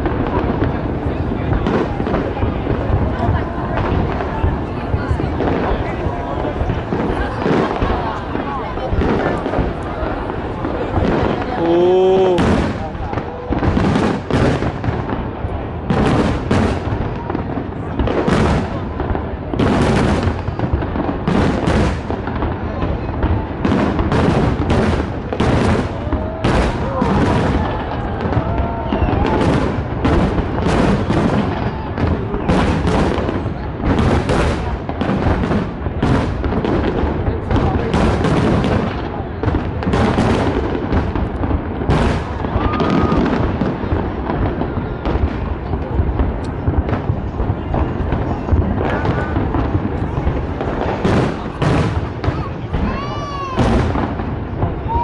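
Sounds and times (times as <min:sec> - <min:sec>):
crowd voices: 0:00.0 - 0:55.0
fireworks bursting: 0:00.0 - 0:55.0.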